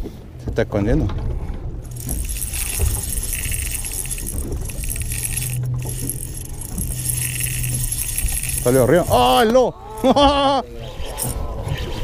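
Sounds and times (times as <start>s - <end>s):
low steady hum: 0.0s - 11.6s
fishing reel gears whirring: 1.9s - 12.0s.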